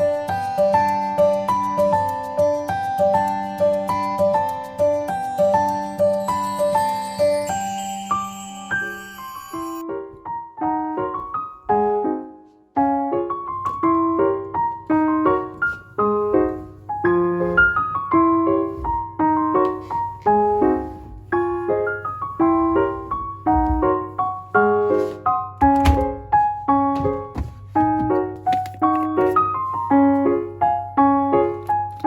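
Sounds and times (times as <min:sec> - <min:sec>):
gentle solo piano melody: 0:00.0 - 0:32.0.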